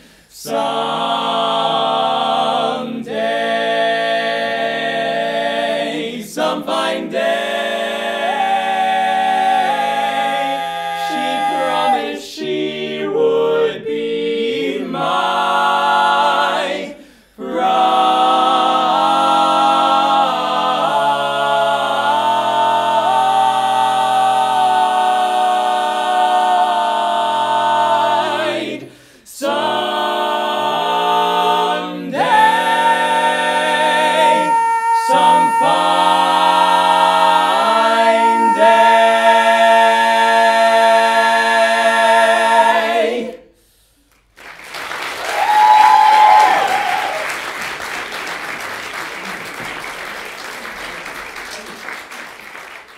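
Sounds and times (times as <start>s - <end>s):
male quartet singing a cappella: 0.0s - 43.8s.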